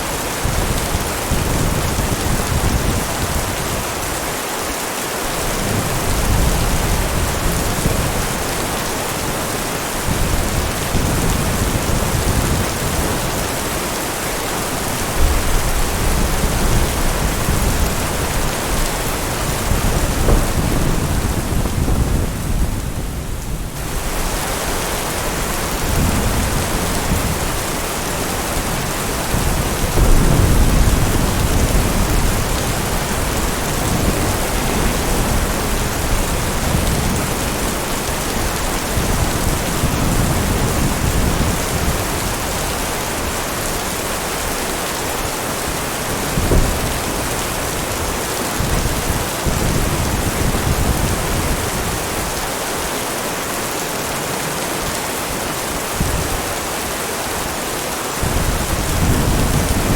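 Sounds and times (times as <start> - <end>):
heavy rain falling: 0.0 - 59.9
thunder rumbling: 5.3 - 52.4, 58.2 - 59.9.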